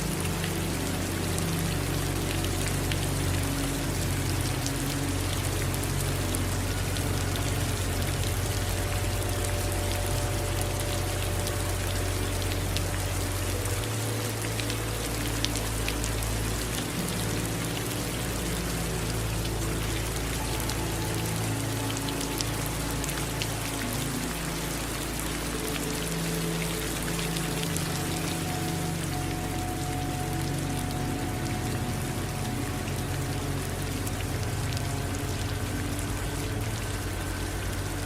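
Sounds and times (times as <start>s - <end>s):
rain drops ticking: 0.0s - 38.0s.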